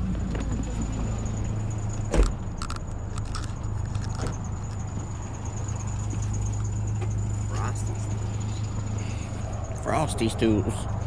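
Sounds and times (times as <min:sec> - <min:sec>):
pickup truck idling: 0:00.0 - 0:11.0.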